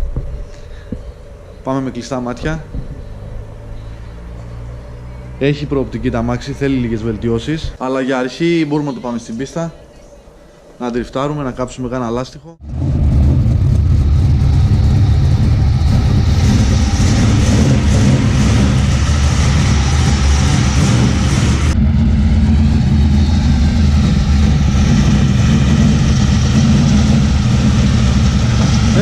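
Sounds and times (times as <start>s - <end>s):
car engine deep rumble: 0.0s - 7.8s, 12.6s - 29.0s.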